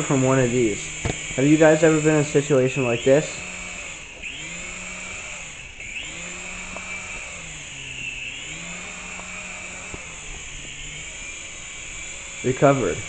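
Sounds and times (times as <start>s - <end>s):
rc helicopter rotors whirring: 0.0s - 13.0s.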